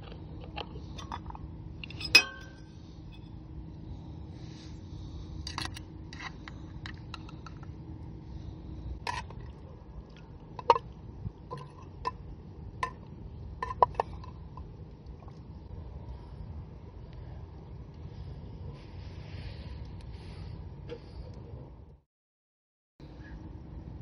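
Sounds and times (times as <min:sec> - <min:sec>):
low steady rumble: 0:00.0 - 0:22.0, 0:23.0 - 0:24.0.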